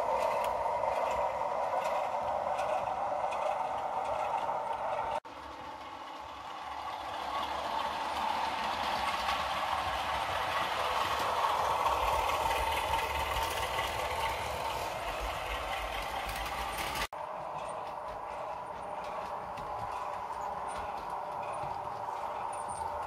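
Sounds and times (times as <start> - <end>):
model train diesel engine sound: 0.0 - 23.0.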